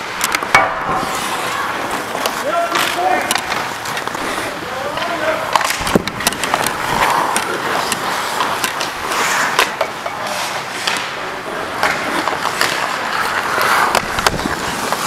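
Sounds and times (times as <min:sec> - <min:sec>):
skate blades scraping ice: 0:00.0 - 0:15.0.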